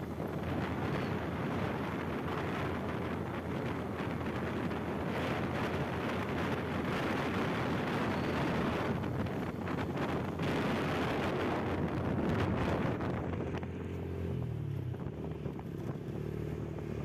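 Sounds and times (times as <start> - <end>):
motorcycle running: 0.0 - 17.0
wind buffeting microphone: 0.0 - 17.0.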